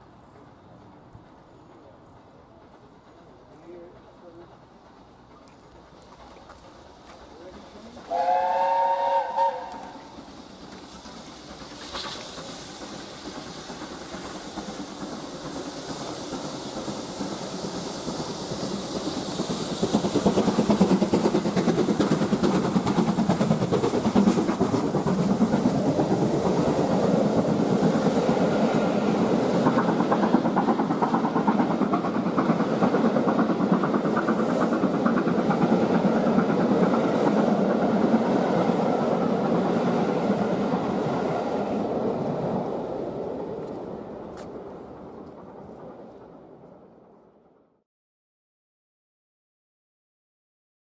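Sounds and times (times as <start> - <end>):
steam train running by: 0.0 - 47.8.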